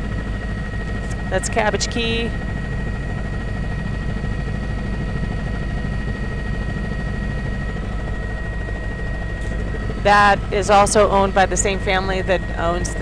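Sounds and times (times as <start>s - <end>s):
helicopter cabin drone: 0.0s - 13.0s
thin steady whine: 0.0s - 13.0s.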